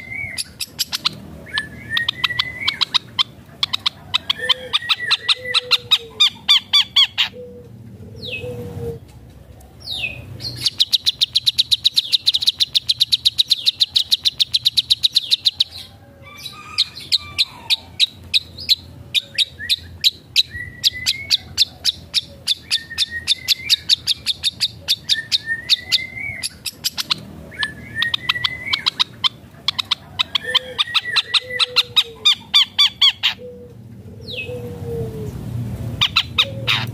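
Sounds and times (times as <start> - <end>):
shrike singing mimicry song: 0.0 - 9.0, 9.7 - 36.9.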